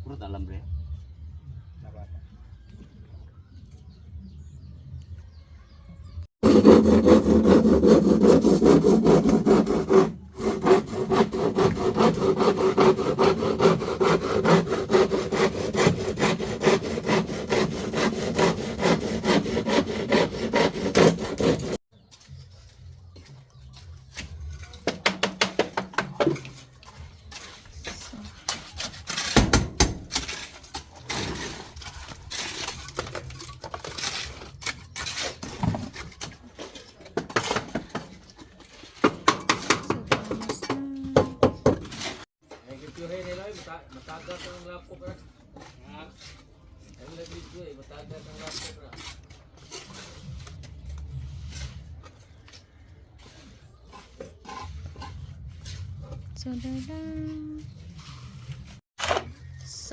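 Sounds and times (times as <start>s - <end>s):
hand tool scraping hard surface: 6.4s - 21.8s, 25.0s - 59.2s.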